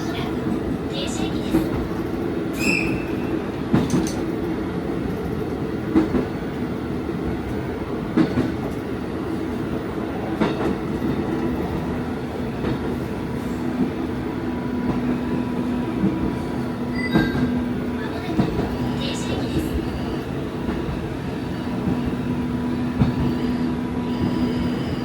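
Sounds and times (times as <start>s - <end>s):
diesel railcar engine hum: 0.0s - 25.0s.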